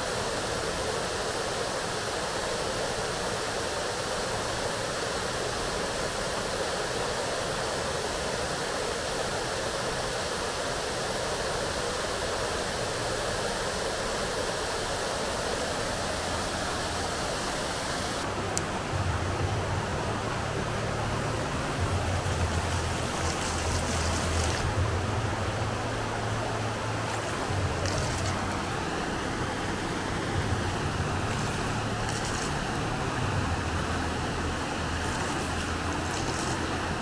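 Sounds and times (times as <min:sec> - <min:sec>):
fountain water rushing: 0:00.0 - 0:37.0.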